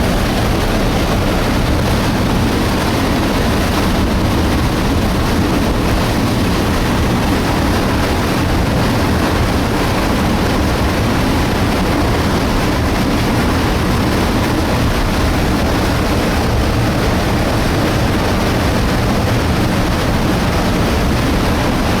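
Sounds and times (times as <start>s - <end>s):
debris flow rushing with deep rumble: 0.0s - 22.0s.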